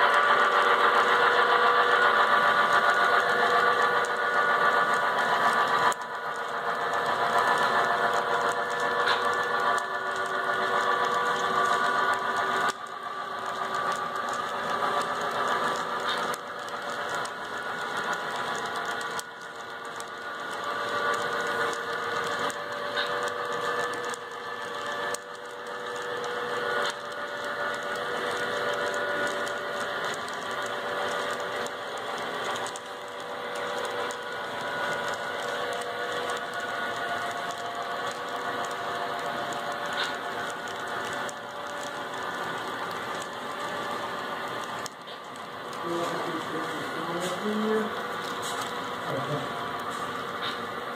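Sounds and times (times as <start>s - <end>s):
model train wheels whirring: 0.0s - 50.9s.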